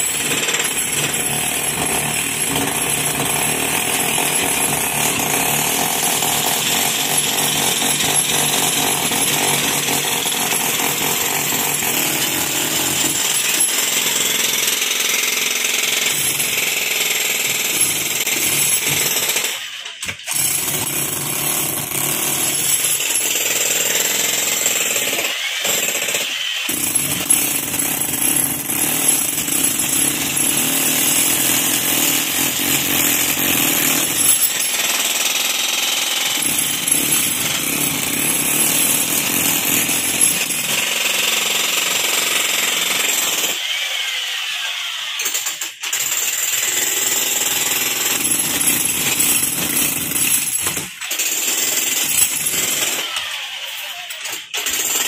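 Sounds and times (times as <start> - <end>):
demolition hammer chiselling concrete: 0.0 - 55.0.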